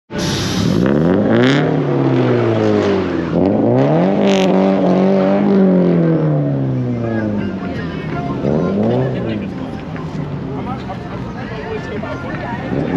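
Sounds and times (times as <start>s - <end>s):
car engine revving: 0.1s - 12.9s.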